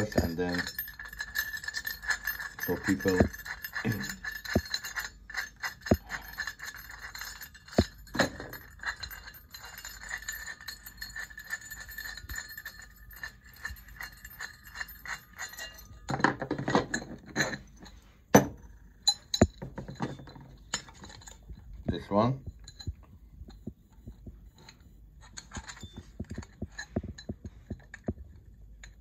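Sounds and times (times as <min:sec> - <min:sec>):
small metal parts clinking: 0:00.0 - 0:29.0.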